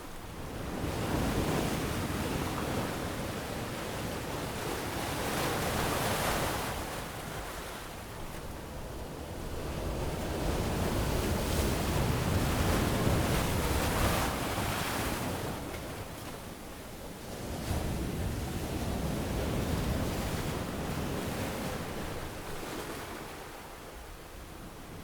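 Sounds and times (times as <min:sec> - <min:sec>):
ocean waves washing onto beach: 0:00.0 - 0:25.0.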